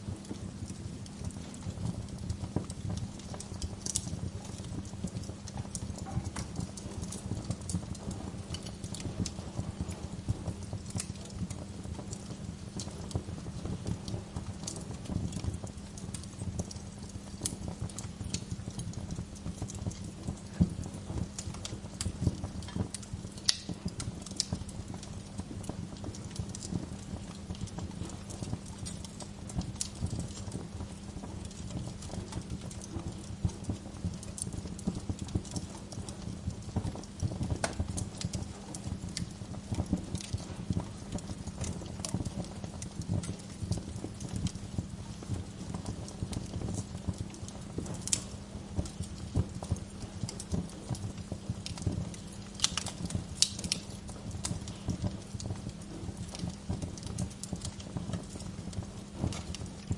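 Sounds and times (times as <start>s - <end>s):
burning logs popping: 0.0s - 59.9s
wood fire crackling: 0.0s - 59.9s.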